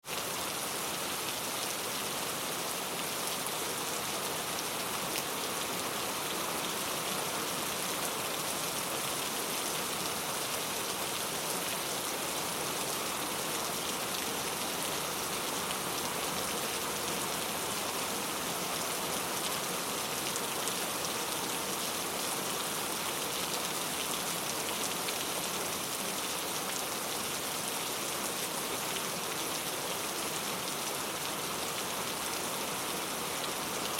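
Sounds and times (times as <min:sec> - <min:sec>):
rain pattering on a surface: 0:00.0 - 0:33.9.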